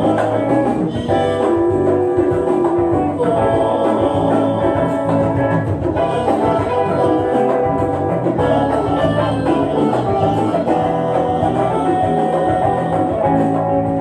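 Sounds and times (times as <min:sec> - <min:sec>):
acoustic guitars: 0:00.0 - 0:14.0
hand drums: 0:00.0 - 0:14.0.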